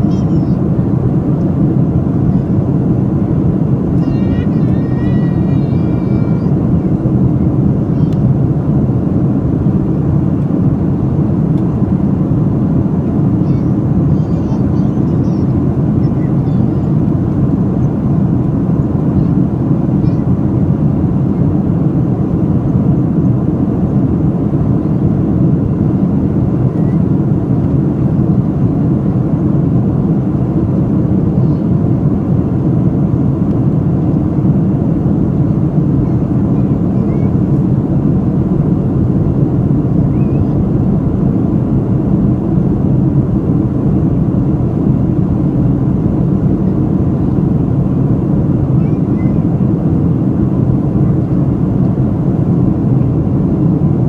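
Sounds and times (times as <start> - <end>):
aircraft roar: 0.0 - 54.0.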